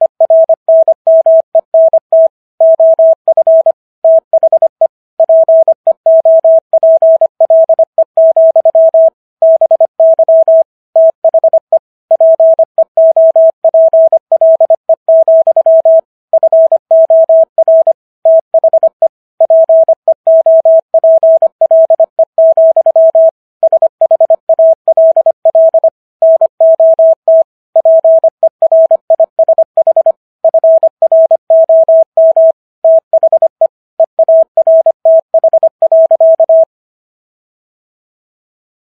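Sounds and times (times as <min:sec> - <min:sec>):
morse code tone: 0:00.0 - 0:36.7.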